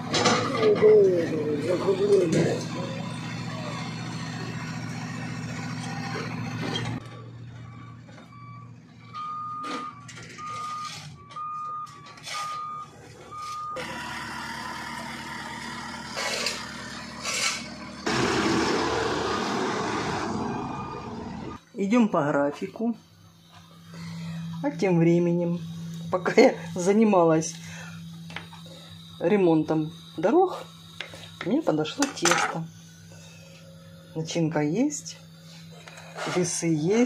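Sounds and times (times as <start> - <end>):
diesel engine with milling machine: 0.0 - 21.8, 22.6 - 37.0
heavy engine noise: 0.0 - 21.8, 22.5 - 37.0
reversing alarm beeping: 0.4 - 18.2, 23.0 - 37.0.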